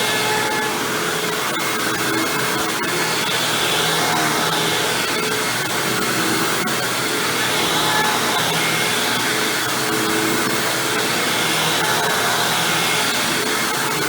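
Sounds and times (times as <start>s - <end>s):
vacuum cleaner drone: 0.0s - 14.0s.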